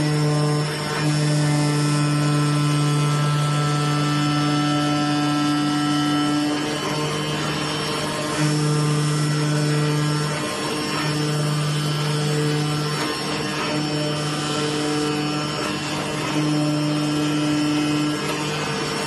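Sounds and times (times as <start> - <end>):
cutting machine humming: 0.0 - 19.0.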